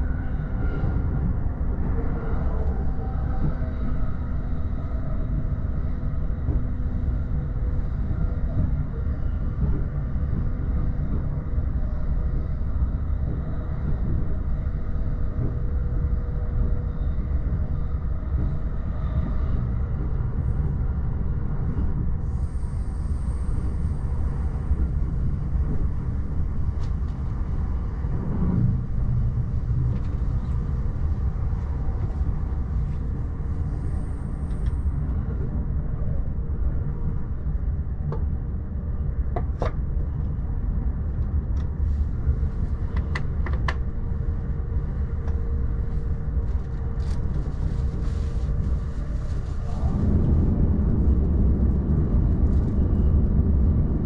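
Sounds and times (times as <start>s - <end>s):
electric train rumble: 0.0s - 54.0s.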